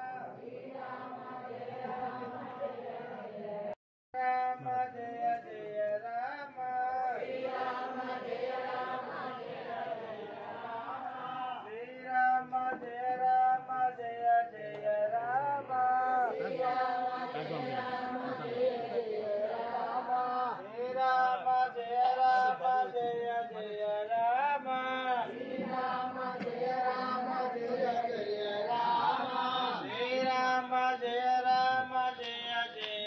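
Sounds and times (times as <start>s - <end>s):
devotional chanting: 0.0s - 33.0s.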